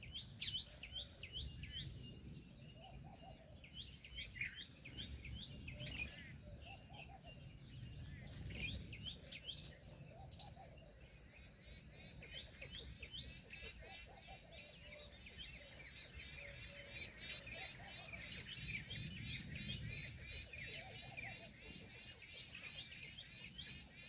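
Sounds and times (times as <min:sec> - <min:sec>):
outdoor background noise: 0:00.0 - 0:24.0
small birds chirping: 0:00.0 - 0:24.0.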